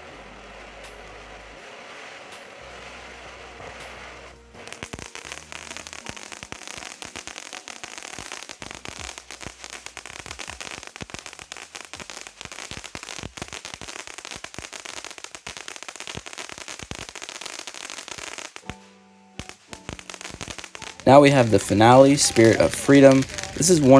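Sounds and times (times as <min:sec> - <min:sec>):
firework hiss: 0:00.0 - 0:18.8, 0:19.4 - 0:23.9
firework crackling and popping: 0:00.0 - 0:23.9.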